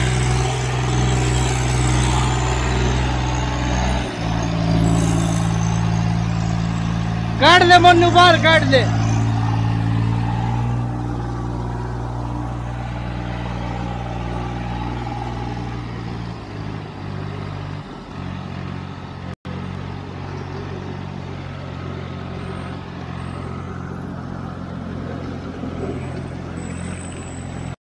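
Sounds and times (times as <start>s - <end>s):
tractor diesel engine under load: 0.0s - 27.8s.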